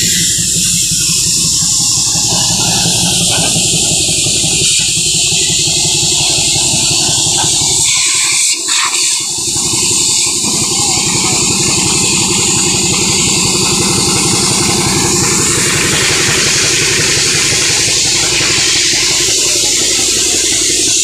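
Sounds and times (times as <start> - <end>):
diesel engine idling: 0.0 - 8.2, 9.0 - 21.0
air hose hissing: 0.0 - 21.0.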